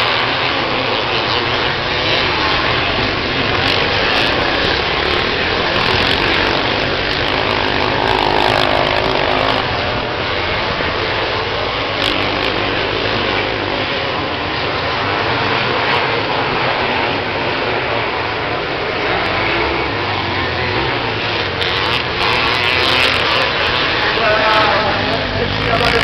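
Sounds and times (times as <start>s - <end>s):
motocross bikes racing: 0.0s - 26.0s.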